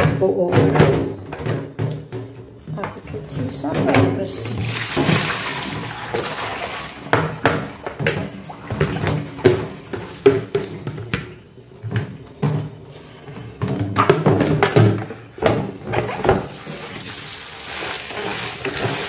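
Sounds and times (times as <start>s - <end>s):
water sloshing in a plastic basin: 0.2s - 19.0s.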